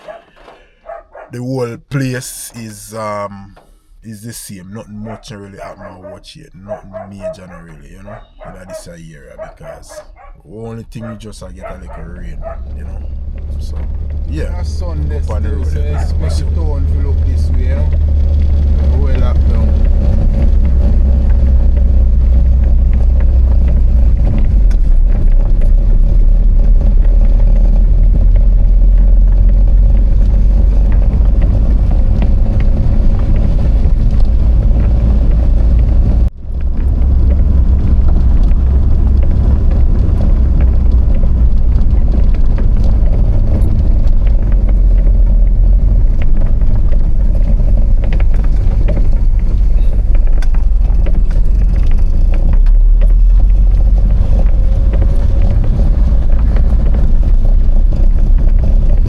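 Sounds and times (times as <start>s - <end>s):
vehicle rumbling along road: 9.4s - 59.0s.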